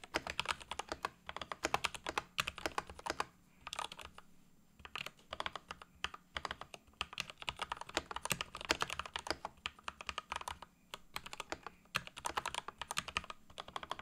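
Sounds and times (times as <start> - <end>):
keyboard typing: 0.0 - 4.2, 4.8 - 14.0.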